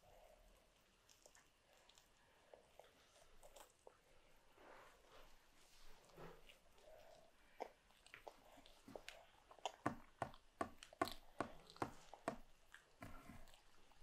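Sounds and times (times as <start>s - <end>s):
toddler chewing with mouth clicks: 0.6s - 4.1s, 6.0s - 14.0s.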